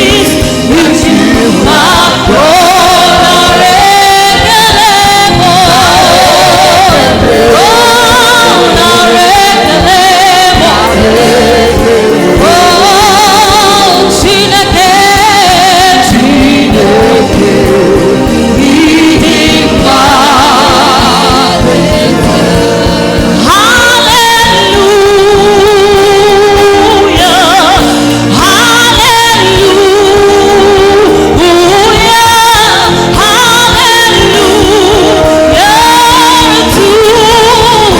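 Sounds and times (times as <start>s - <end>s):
band accompaniment: 0.0s - 37.9s
gospel choir singing: 0.0s - 37.9s.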